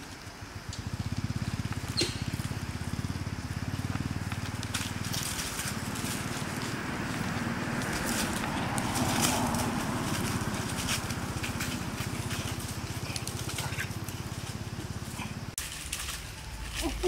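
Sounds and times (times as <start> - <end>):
dry leaves crackling and rustling: 0.8 - 17.0.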